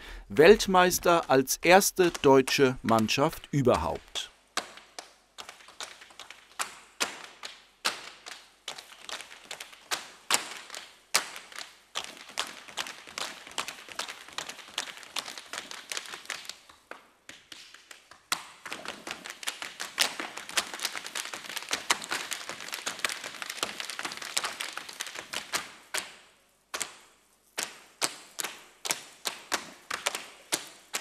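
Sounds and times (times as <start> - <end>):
tap shoes clicking on stage: 0.4 - 31.0.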